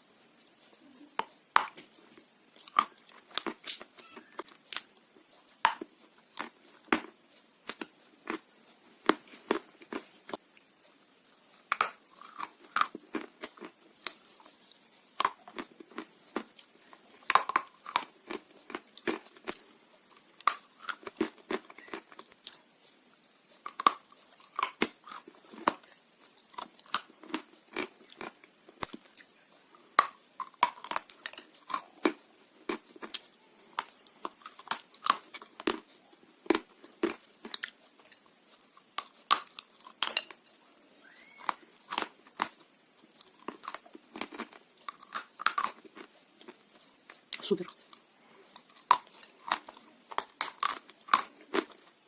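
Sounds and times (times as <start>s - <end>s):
person chewing crunchy clay: 0.4s - 52.0s.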